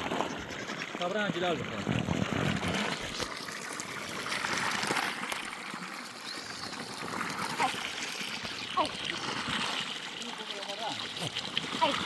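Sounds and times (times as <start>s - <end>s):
water trickling and gushing: 0.0s - 12.0s.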